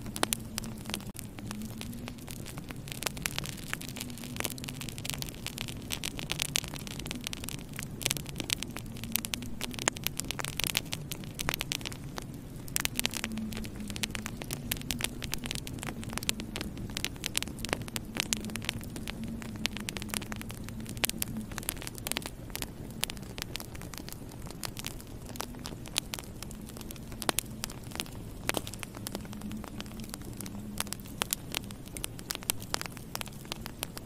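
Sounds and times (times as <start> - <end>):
steady low hum: 0.0 - 34.0
wood fire crackling: 0.0 - 34.0.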